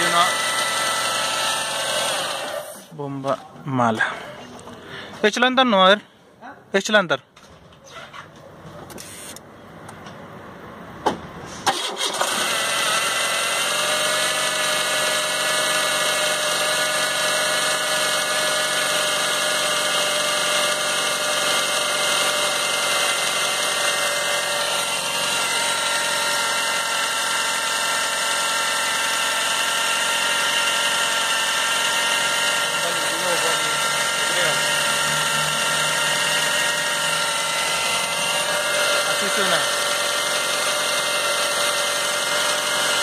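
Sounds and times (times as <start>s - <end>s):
power steering pump whine: 0.0s - 2.9s, 8.8s - 9.5s, 11.6s - 43.0s
car engine starting and running: 0.0s - 3.3s, 8.8s - 43.0s.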